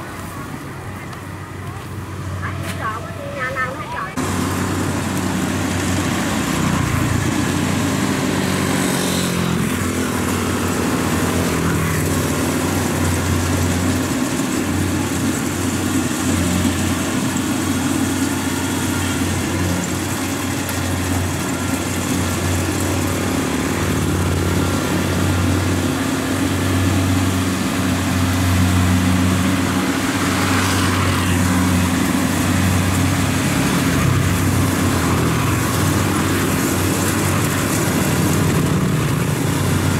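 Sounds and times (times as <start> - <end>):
combine harvester diesel engine drone: 0.0 - 39.9
machinery whirring: 0.0 - 39.9.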